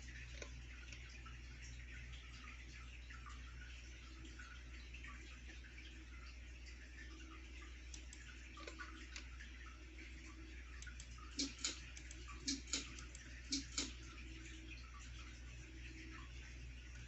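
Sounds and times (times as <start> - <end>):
ceiling fan humming: 0.0 - 17.0.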